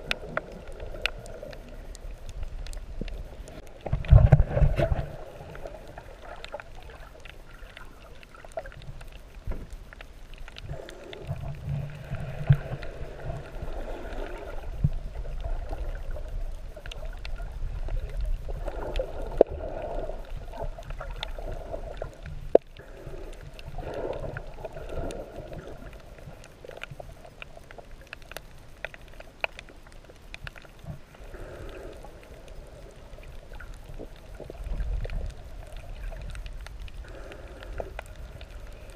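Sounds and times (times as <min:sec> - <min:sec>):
muffled underwater water rumble: 0:00.0 - 0:38.9.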